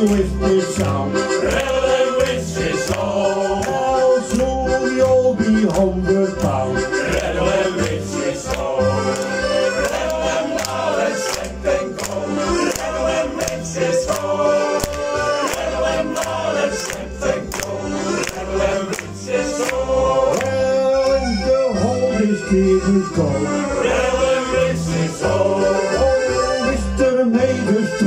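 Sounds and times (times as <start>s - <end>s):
male choir singing: 0.0s - 21.2s, 23.5s - 28.0s
accordion: 0.0s - 28.0s.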